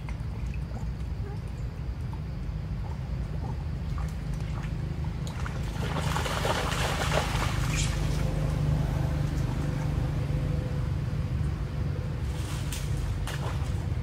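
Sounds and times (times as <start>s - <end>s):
water splashing: 0.0s - 10.0s, 12.5s - 14.0s.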